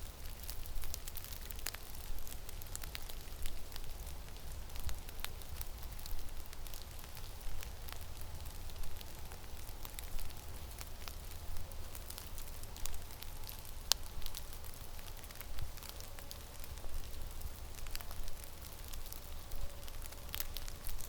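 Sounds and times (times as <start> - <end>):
sharp ticks and crackles: 0.1 - 21.0.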